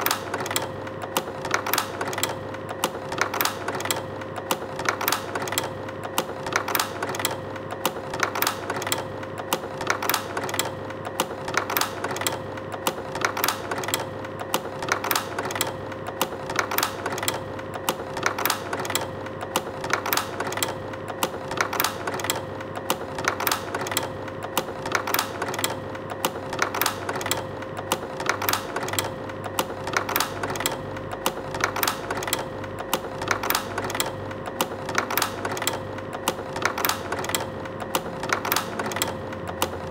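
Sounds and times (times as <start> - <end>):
projector motor humming: 0.0 - 39.9.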